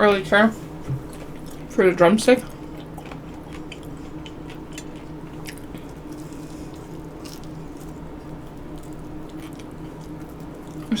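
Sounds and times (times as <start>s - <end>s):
steady low hum: 0.0s - 11.0s
person chewing wet food: 0.8s - 1.8s, 2.4s - 11.0s.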